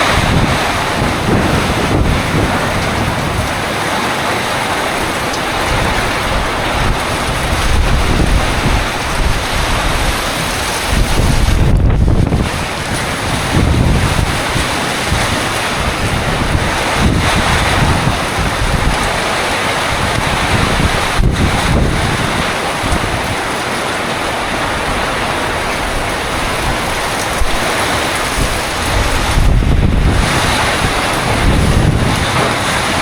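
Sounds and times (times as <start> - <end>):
wind and rain hiss: 0.0 - 33.0
wind buffeting microphone: 0.0 - 33.0.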